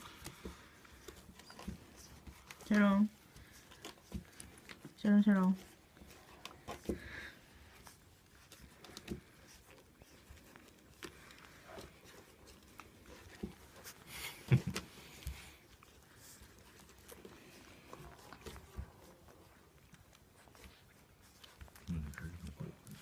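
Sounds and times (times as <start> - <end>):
faint rustling of fur: 0.0 - 23.0.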